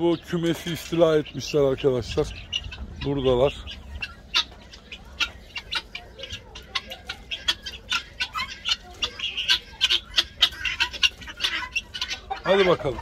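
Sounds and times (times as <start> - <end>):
guineafowl calling: 0.0 - 13.0.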